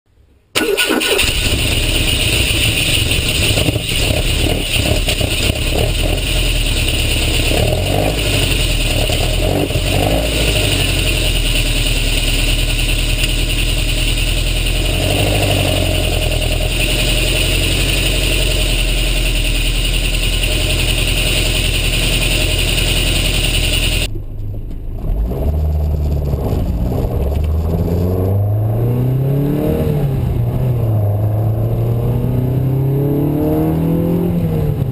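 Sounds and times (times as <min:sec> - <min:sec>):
car engine running: 0:00.6 - 0:29.0.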